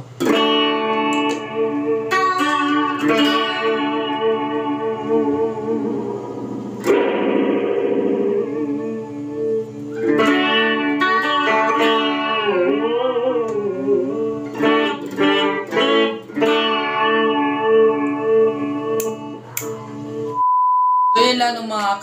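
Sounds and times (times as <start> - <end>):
electric guitar chords with vibrato: 0.0 - 20.4.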